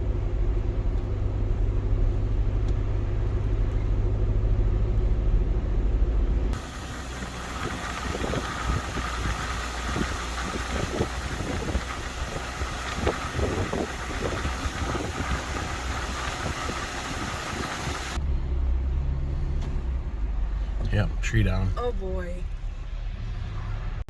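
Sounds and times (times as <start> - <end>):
car driving on snow: 0.0 - 24.0.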